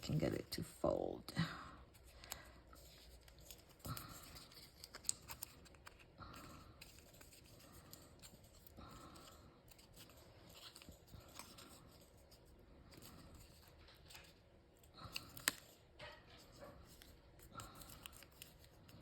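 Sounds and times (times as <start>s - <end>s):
cardstock rustling and creasing: 1.9s - 19.0s.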